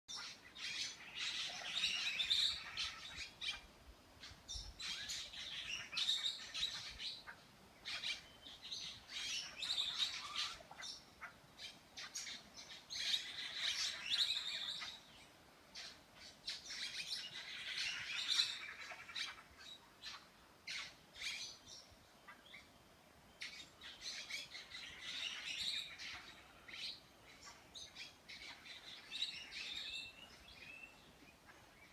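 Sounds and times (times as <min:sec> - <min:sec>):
birds chirping and squawking: 0:00.1 - 0:15.2, 0:15.8 - 0:22.7, 0:23.4 - 0:31.9.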